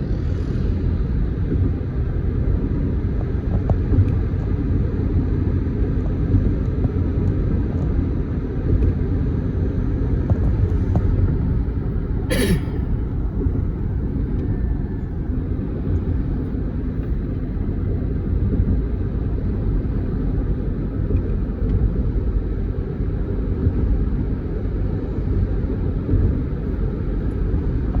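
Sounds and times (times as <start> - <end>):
moving vehicle road noise: 0.0 - 28.0.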